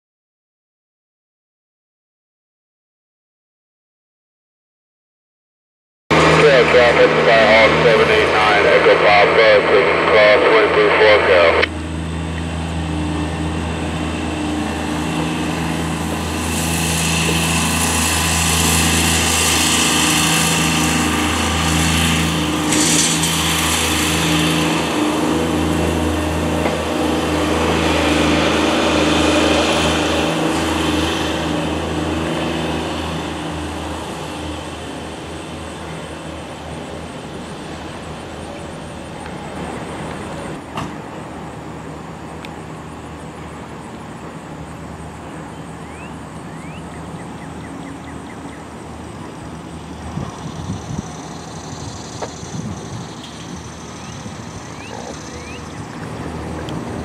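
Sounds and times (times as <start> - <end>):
small plane engine passing overhead: 6.1 - 57.0.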